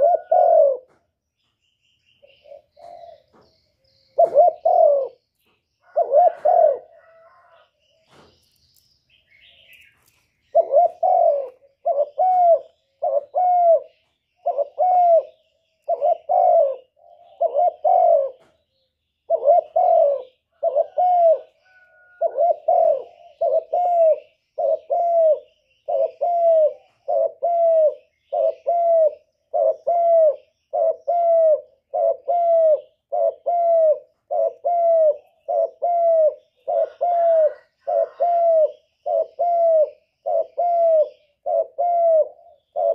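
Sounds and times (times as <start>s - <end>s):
dove cooing: 0.0s - 1.1s, 2.2s - 8.4s, 9.4s - 42.9s.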